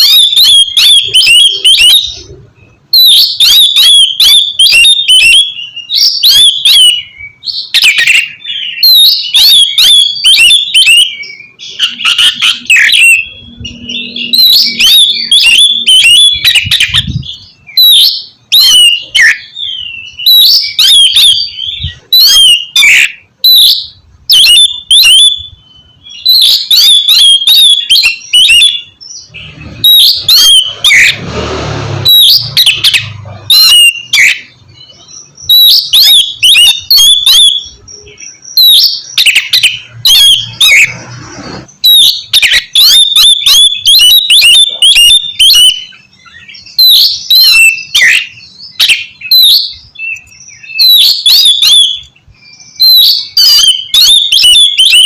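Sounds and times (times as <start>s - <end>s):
bird singing whistled notes: 0.0s - 31.2s, 32.1s - 41.0s, 41.8s - 55.0s.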